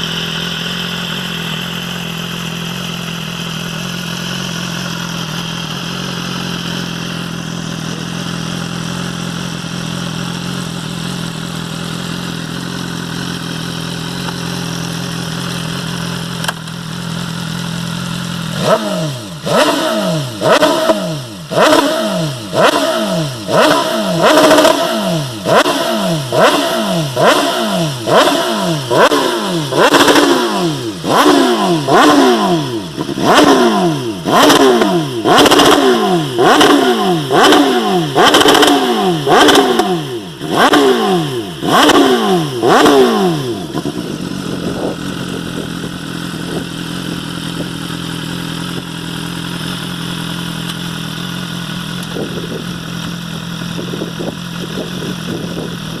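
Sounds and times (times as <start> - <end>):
motorcycle engine revving: 0.0 - 56.0
motorcycle idling: 0.0 - 56.0.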